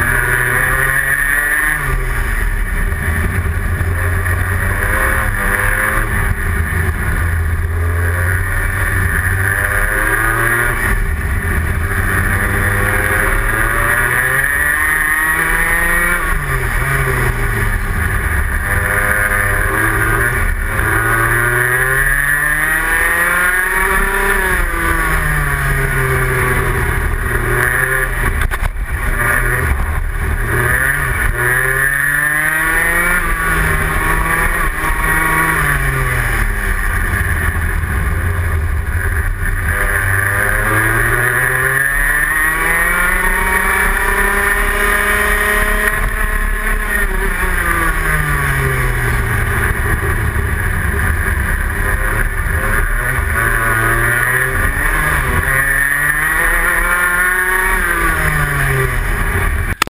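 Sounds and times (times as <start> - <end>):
two-stroke kart engine revving: 0.0 - 59.9.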